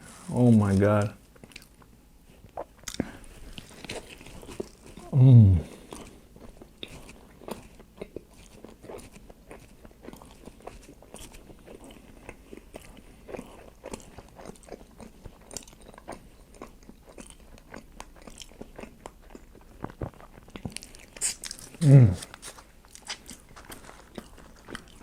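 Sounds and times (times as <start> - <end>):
person chewing with mouth clicks: 1.3 - 25.0.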